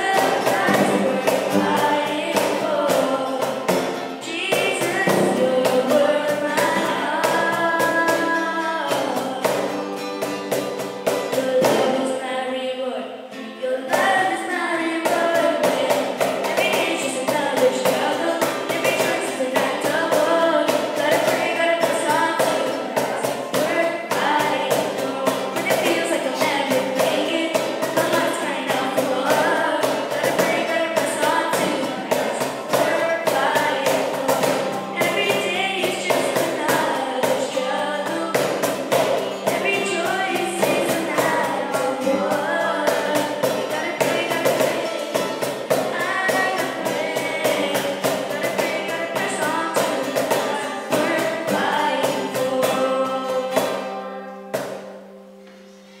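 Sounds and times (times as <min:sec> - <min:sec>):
person singing: 0:00.0 - 0:09.8, 0:11.1 - 0:54.5
hand drum beat: 0:00.0 - 0:12.0, 0:13.9 - 0:55.0
strummed acoustic guitar: 0:00.0 - 0:56.0.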